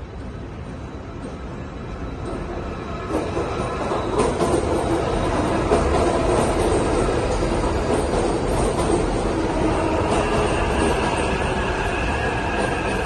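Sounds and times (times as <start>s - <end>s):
electric train wheels rolling: 0.0s - 13.0s.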